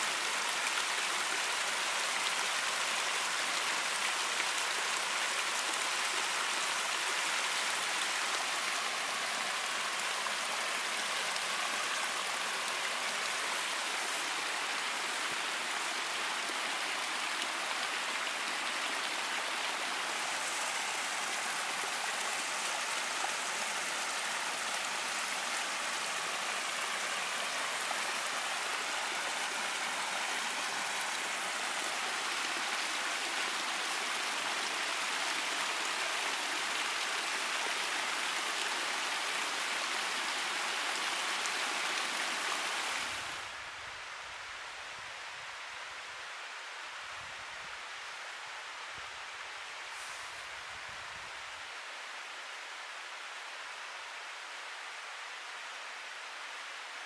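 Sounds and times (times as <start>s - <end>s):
waterfall cascading over rocks: 0.0s - 57.0s.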